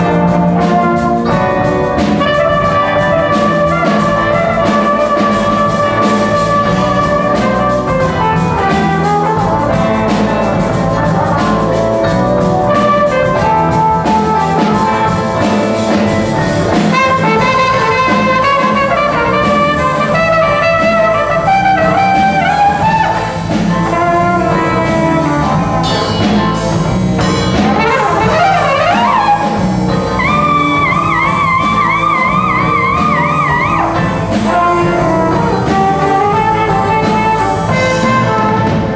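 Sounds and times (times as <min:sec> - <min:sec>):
trumpet and trombone: 0:00.0 - 0:26.6, 0:27.2 - 0:38.9
jazz band playing: 0:00.0 - 0:38.9.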